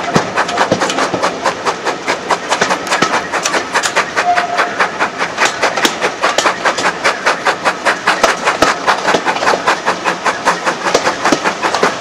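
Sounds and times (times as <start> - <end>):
train rhythmic clatter: 0.0 - 12.0.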